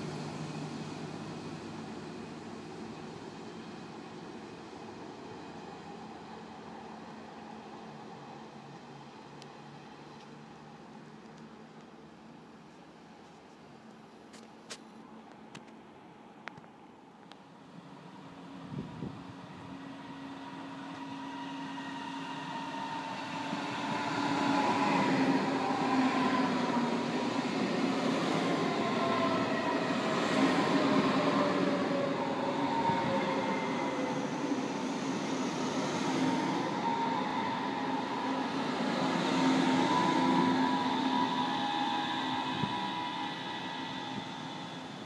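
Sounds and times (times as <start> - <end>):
electric train rumbling: 0.0 - 12.6, 17.2 - 45.0.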